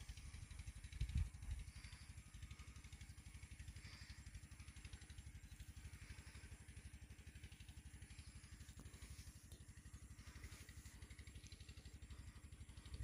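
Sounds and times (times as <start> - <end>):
faint engine putter: 0.0 - 13.0.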